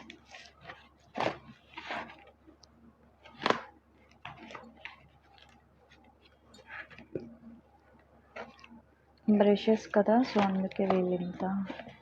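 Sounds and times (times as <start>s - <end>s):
plastic packaging crinkling: 0.0s - 2.6s, 3.2s - 12.0s.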